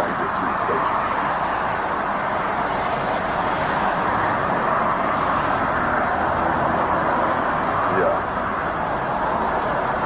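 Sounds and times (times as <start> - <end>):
road traffic hum: 0.0 - 10.0.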